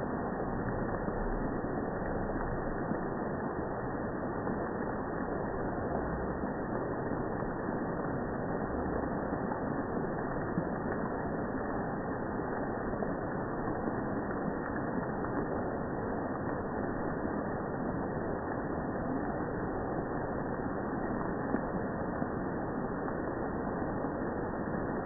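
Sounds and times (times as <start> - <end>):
slowed rain rushing: 0.0 - 25.0.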